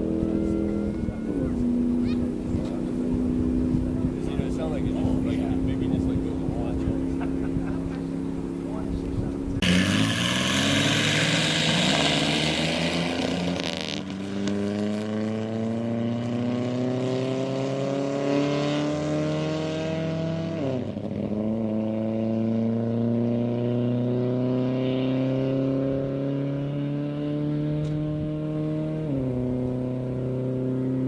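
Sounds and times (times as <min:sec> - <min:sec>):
racing engine accelerating: 0:00.0 - 0:31.0.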